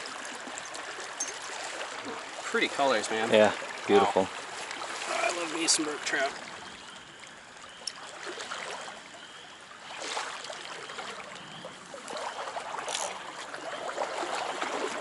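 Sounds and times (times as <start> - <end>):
stream water running and splashing: 0.0 - 15.0.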